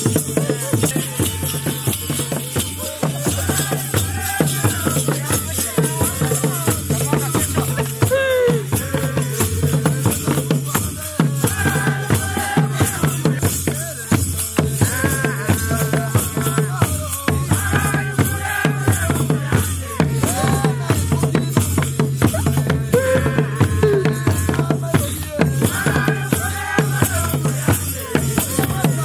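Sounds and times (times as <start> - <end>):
group singing: 0.0 - 29.0.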